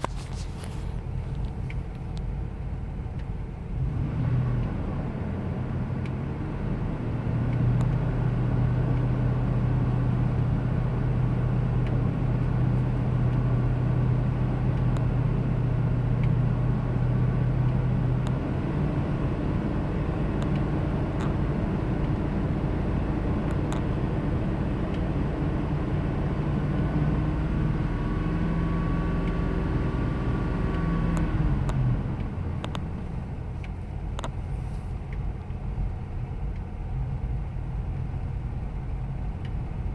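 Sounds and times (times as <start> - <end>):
car engine idling: 0.0 - 28.1, 28.9 - 39.9.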